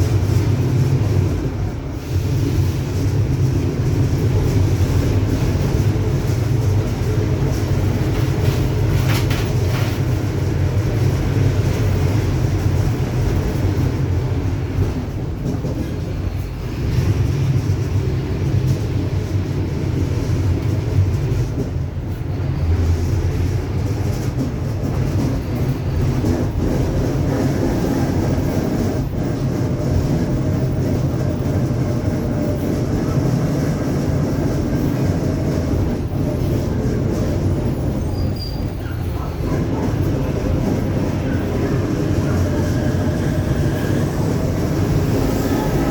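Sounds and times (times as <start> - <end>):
bus engine droning: 0.0 - 45.9.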